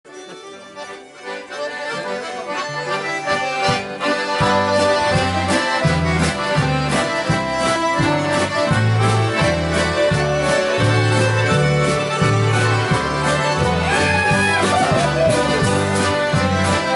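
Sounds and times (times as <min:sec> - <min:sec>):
accordions playing dance tune: 0:00.1 - 0:16.9
guitars: 0:00.1 - 0:16.9.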